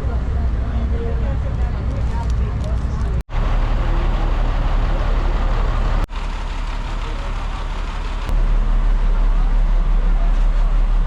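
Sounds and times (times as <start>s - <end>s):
large engine rumbling: 0.0s - 11.0s.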